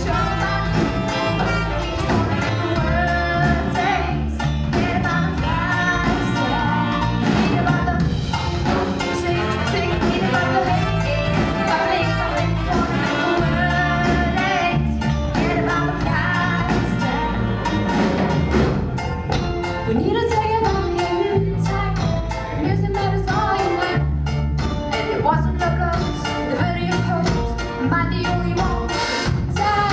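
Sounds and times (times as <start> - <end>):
woman singing: 0.0 - 18.4, 19.8 - 24.1, 24.9 - 29.9
bass guitar line: 0.0 - 29.9
drums: 0.0 - 29.9.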